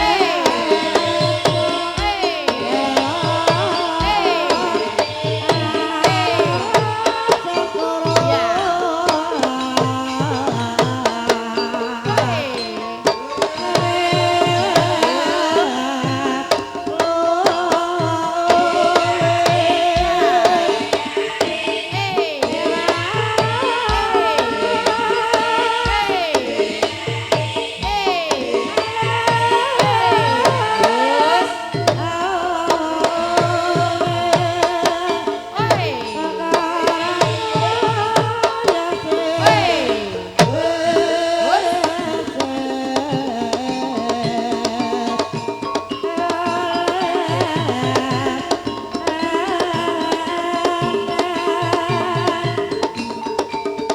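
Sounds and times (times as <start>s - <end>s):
hand drum strokes: 0.0s - 53.9s
ringing metallophone notes: 0.0s - 53.9s.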